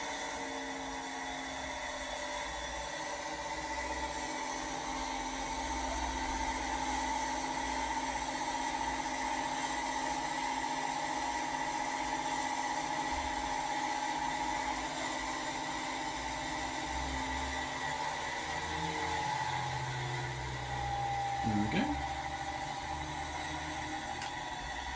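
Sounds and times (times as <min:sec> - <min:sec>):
model locomotive droning: 0:00.0 - 0:24.9.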